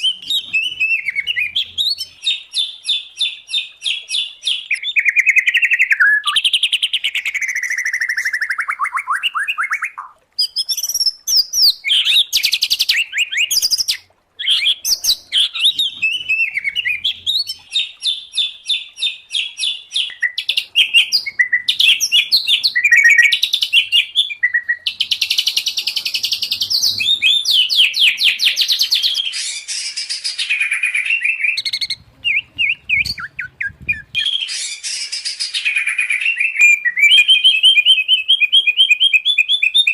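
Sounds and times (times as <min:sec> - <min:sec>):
birds singing trills and whistles: 0:00.0 - 0:39.9.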